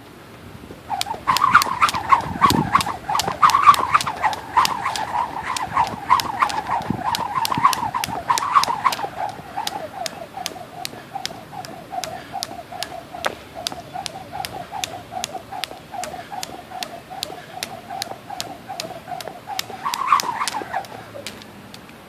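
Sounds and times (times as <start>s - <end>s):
soft pulsing rope whoosh: 0.7s - 21.6s
jump rope slapping ground: 0.7s - 22.0s.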